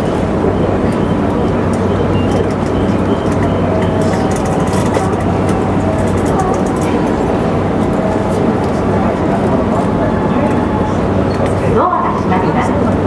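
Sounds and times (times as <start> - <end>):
low motor hum: 0.0 - 13.0
train wheels rumbling on rail: 0.0 - 13.0.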